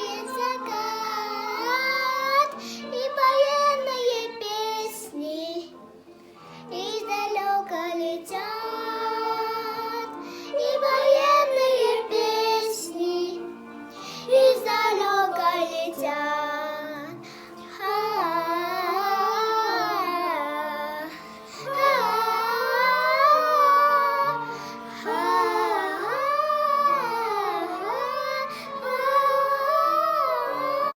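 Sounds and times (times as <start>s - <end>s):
child singing with vibrato: 0.0s - 5.7s, 6.7s - 31.0s
instrumental accompaniment: 0.0s - 31.0s.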